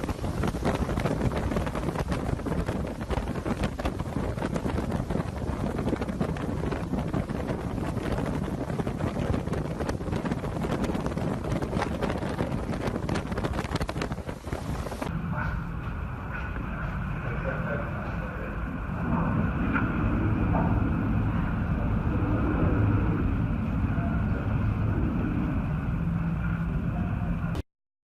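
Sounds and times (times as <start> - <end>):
storm wind buffeting microphone: 0.0 - 27.6.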